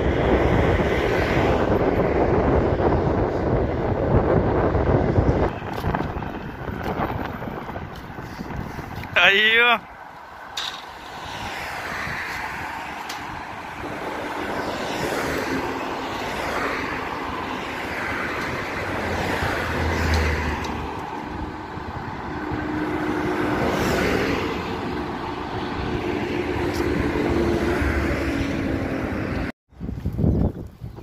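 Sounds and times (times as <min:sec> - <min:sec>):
road traffic passing: 0:00.0 - 0:29.6.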